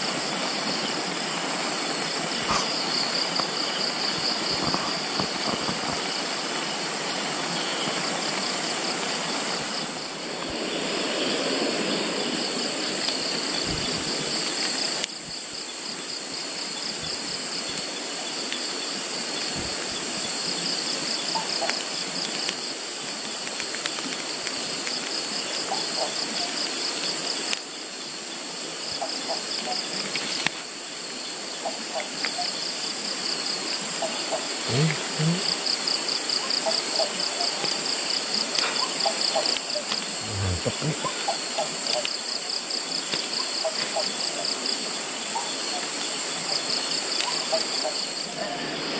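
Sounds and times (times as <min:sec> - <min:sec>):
crickets and insects trilling: 0:00.0 - 0:48.9.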